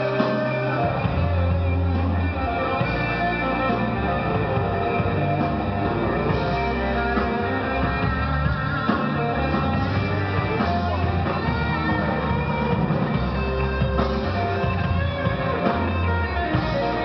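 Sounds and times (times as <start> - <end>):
drum kit: 0.0 - 17.0
electric guitars: 0.0 - 17.0
low bass notes: 0.0 - 17.0.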